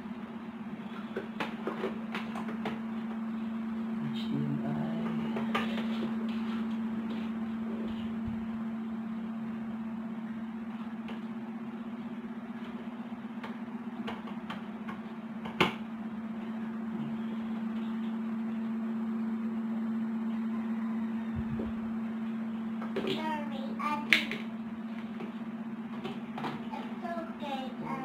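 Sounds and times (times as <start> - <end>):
electric fan humming: 0.0 - 28.0.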